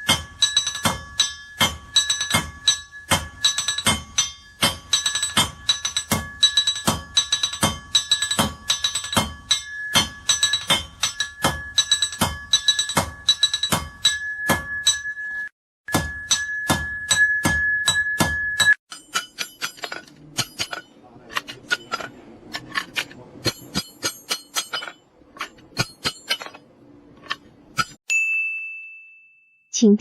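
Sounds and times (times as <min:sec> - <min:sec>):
hammer striking iron on anvil: 0:00.0 - 0:15.2, 0:15.9 - 0:28.0.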